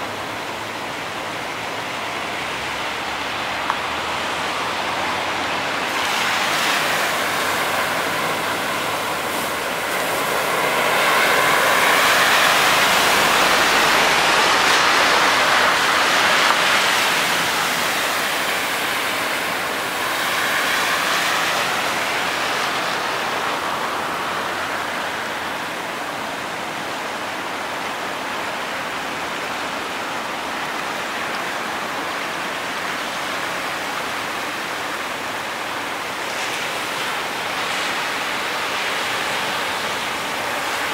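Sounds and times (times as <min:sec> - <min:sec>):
vehicles splashing through floodwater: 0:00.0 - 0:40.9.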